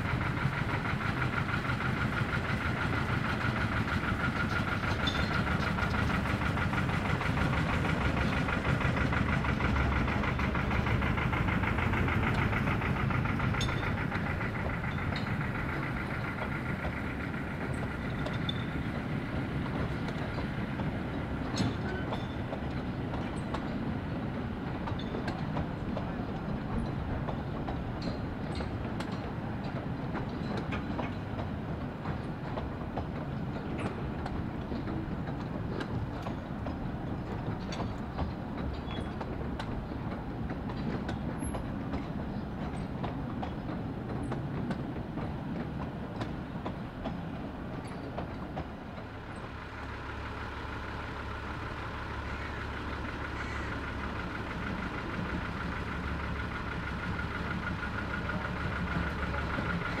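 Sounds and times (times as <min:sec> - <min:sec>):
diesel locomotive idling: 0:00.0 - 1:00.0
train coaches rolling on track: 0:00.0 - 1:00.0.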